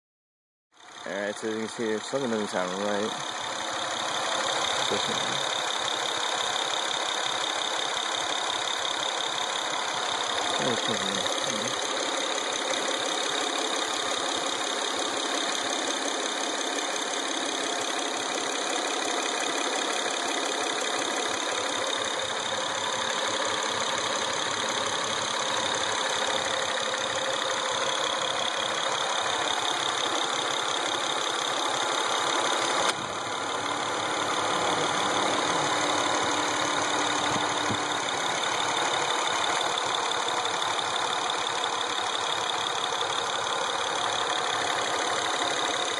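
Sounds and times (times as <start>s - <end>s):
abnormal engine noise: 0.8s - 45.9s
car engine idling: 0.8s - 45.9s.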